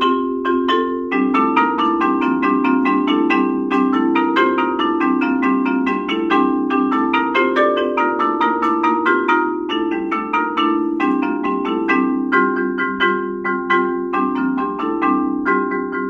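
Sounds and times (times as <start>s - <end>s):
marimba playing: 0.0s - 16.0s.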